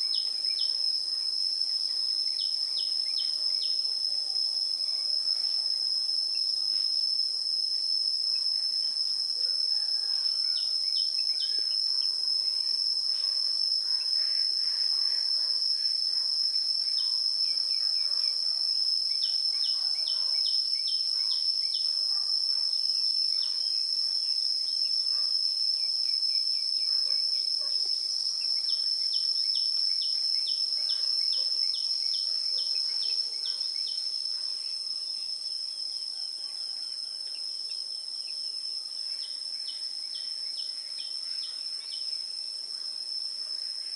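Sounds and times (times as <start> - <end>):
cricket trill: 0.0 - 43.9.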